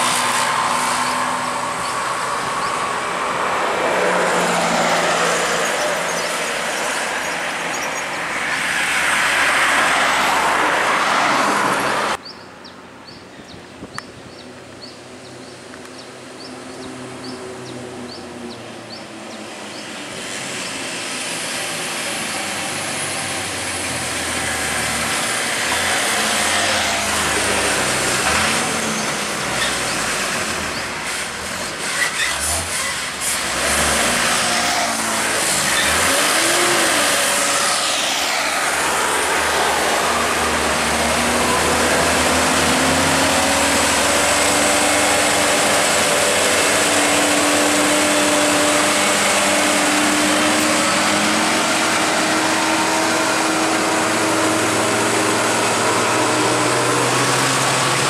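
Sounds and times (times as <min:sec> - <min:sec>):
truck diesel engines climbing hill: 0:00.0 - 0:58.0.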